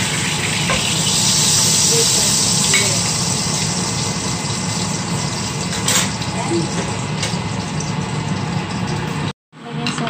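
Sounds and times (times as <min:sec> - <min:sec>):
chicken sizzling in oil: 0:00.0 - 0:09.3.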